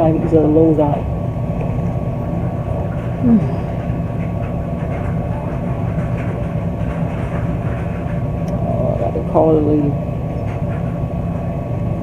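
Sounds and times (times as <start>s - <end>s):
machinery rumbling and humming: 0.0s - 12.0s.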